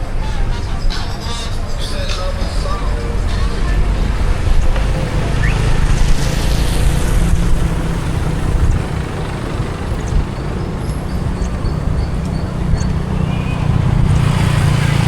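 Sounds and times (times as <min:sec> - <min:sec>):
car road and traffic noise: 0:00.0 - 0:15.0.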